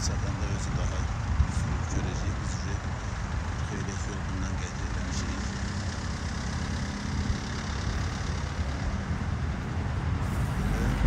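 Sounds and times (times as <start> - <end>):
engines idling: 0.0 - 11.0
traffic noise: 0.0 - 11.0.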